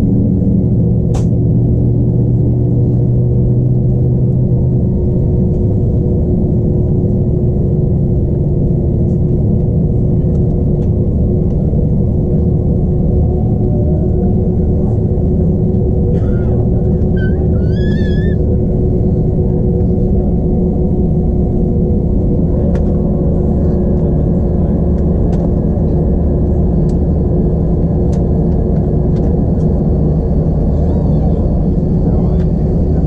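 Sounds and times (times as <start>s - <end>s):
jet engines rumbling in cabin: 0.0s - 33.0s.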